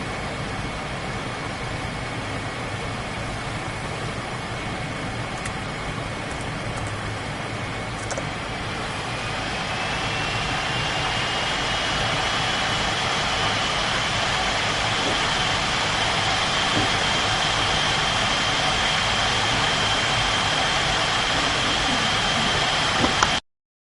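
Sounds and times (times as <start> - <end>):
laptop fans hissing and whining: 0.0 - 23.4.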